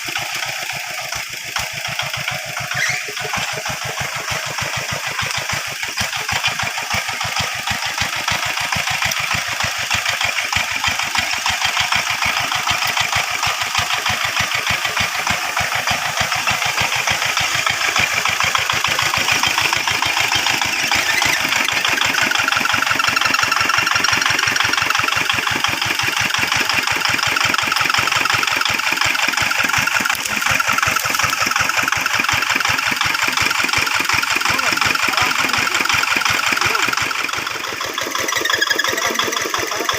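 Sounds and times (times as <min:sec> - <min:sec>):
hand tractor engine running: 0:00.0 - 0:39.9.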